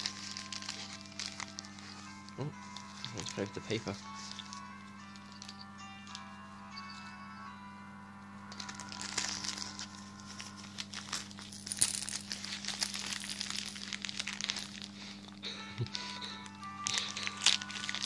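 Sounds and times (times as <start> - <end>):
wrapping paper crinkling: 0.0 - 6.2, 8.5 - 18.0.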